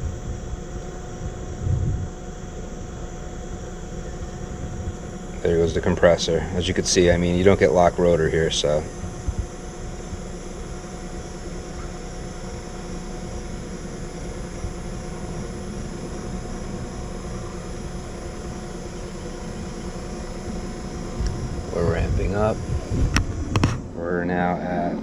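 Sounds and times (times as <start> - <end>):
air conditioner running: 0.0 - 25.0.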